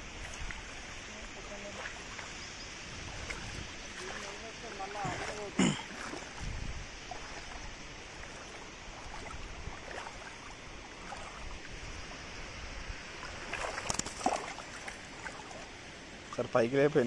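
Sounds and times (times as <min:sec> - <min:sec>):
small splashes in water: 0:00.0 - 0:12.1, 0:13.0 - 0:16.5
water lapping: 0:00.0 - 0:16.6.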